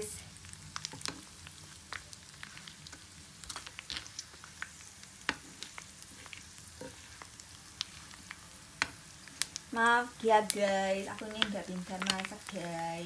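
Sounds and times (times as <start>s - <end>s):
fish sizzling in oil: 0.0s - 13.0s
oil crackling and popping: 0.0s - 13.0s
metal spatula stirring in pan: 0.8s - 13.0s.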